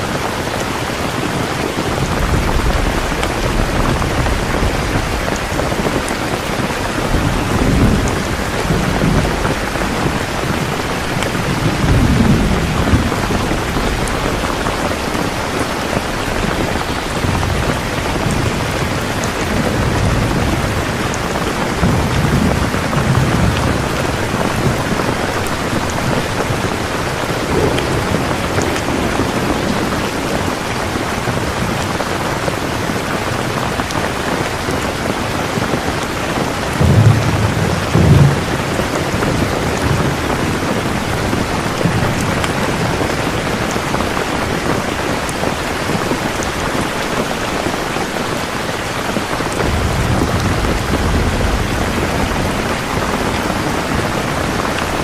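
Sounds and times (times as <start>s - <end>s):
heavy rain falling: 0.0s - 55.0s
low rumbles of thunder: 1.4s - 47.9s, 49.4s - 55.0s.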